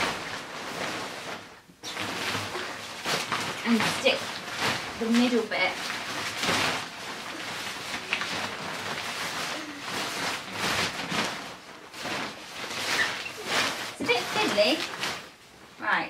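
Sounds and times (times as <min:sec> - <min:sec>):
fabric cover rustling: 0:00.0 - 0:16.0.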